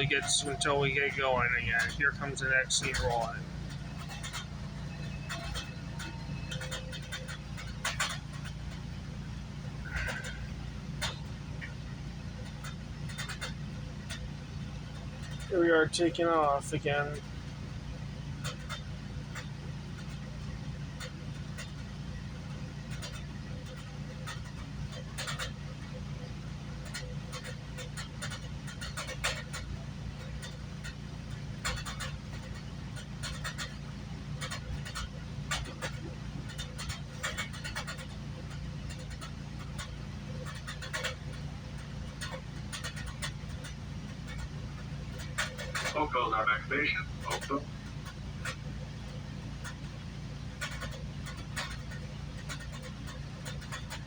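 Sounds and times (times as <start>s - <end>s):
light clicks and knocks: 0.0s - 15.5s, 18.3s - 54.0s
train idling hum: 0.0s - 54.0s.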